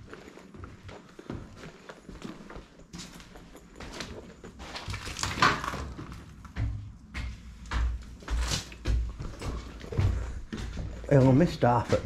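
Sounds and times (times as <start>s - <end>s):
footsteps climbing stairs: 0.0s - 12.0s
shoes scuffing on stairs: 0.0s - 12.0s.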